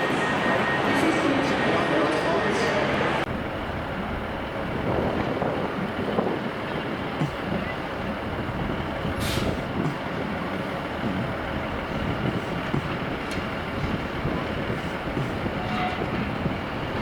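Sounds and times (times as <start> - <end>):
heavy vehicle rumble: 0.0 - 17.0.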